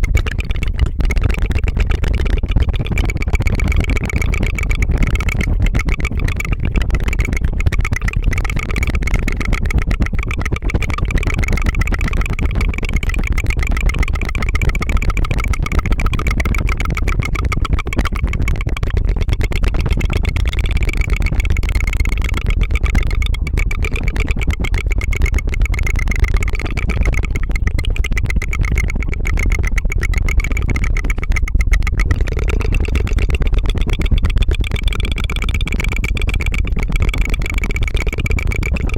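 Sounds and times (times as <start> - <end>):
rolled tongue trill: 0.0 - 38.9.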